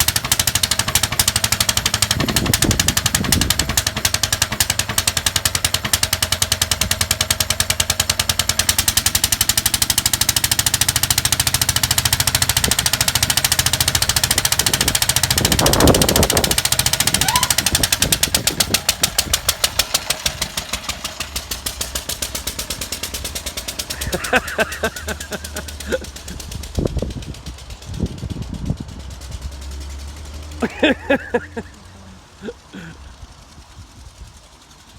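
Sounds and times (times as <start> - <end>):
stationary engine chugging: 0.0 - 34.9.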